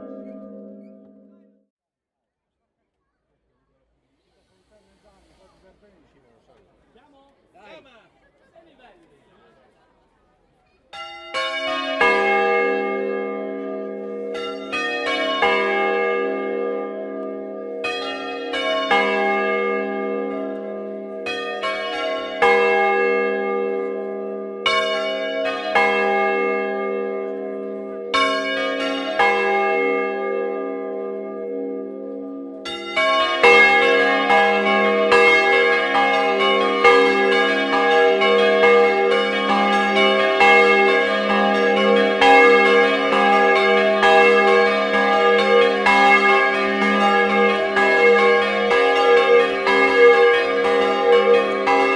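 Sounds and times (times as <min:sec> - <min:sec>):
church bells ringing: 0:00.0 - 0:01.7, 0:10.9 - 0:51.9.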